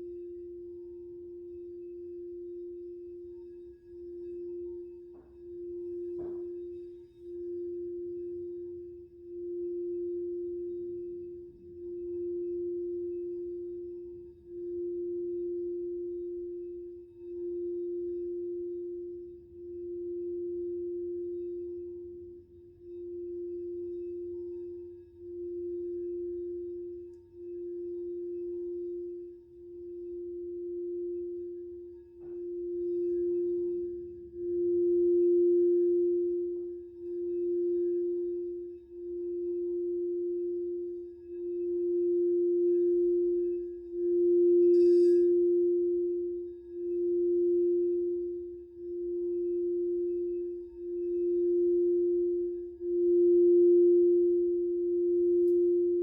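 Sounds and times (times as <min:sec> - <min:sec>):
crystal singing bowl note: 0:00.0 - 0:56.0.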